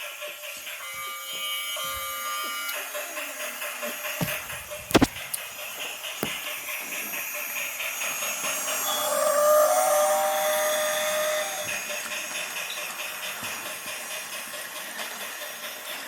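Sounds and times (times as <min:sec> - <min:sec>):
toy steam locomotive chuffing: 0:00.0 - 0:16.0.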